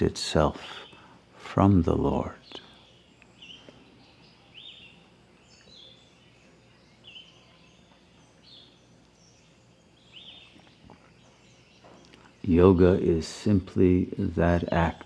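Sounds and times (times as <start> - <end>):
birds chirping: 0.0 - 15.0
low steady hum: 0.0 - 15.0.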